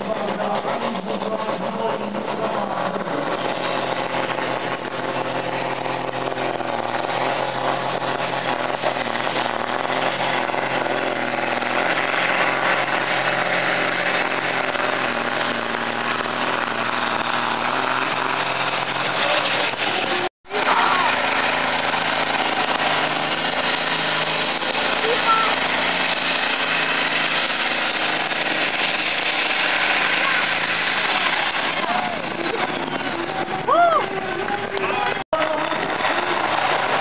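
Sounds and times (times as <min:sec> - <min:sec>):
tractor diesel engine at full load: 0:00.0 - 0:37.0.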